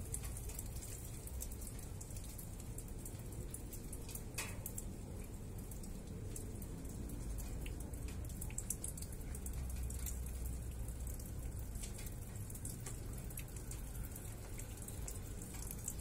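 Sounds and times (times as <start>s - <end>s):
raindrops dripping and ticking: 0.0s - 16.0s.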